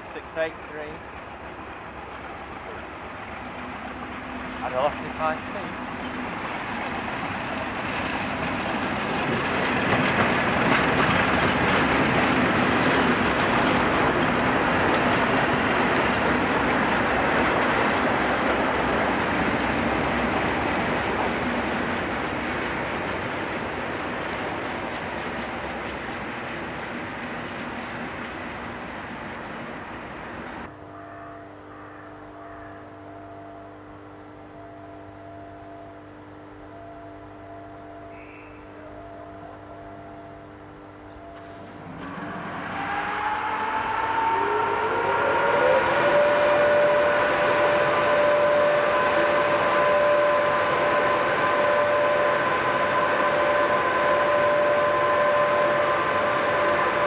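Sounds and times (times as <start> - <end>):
diesel locomotives passing: 0.0 - 57.0
loud train noise: 0.0 - 57.0.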